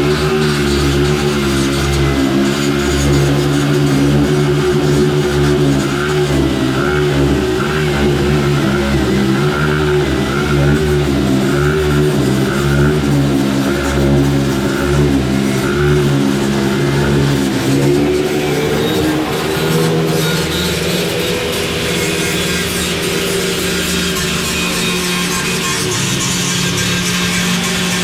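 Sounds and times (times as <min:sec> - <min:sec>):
workshop machinery humming: 0:00.0 - 0:28.0.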